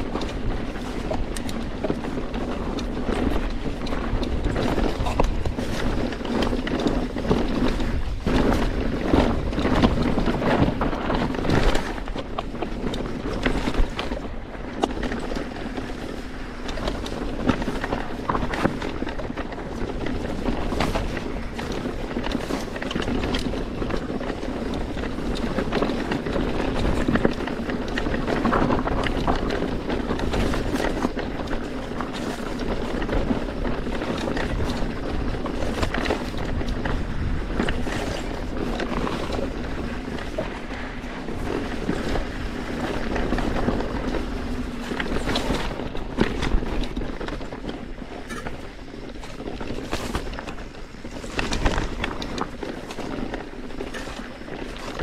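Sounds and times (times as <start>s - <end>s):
bike clacking and rattling: 0.0s - 55.0s
tyres rumbling on loose rock: 0.0s - 55.0s
wind buffeting microphone: 0.0s - 55.0s.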